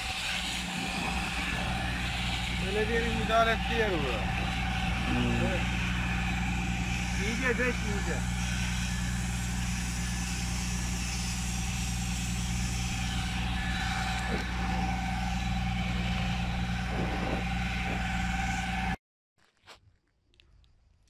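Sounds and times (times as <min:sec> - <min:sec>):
engine humming with whine: 0:00.0 - 0:19.0.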